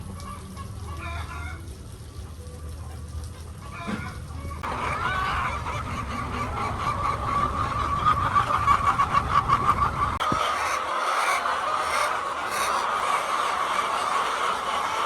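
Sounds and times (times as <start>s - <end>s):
hens clucking: 2.8s - 15.0s.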